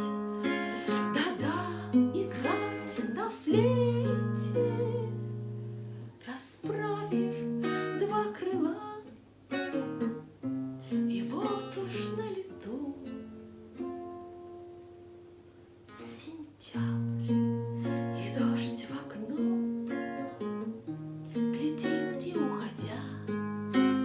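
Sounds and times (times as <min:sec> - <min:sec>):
plucked acoustic strings: 0:00.0 - 0:16.1, 0:16.8 - 0:24.0.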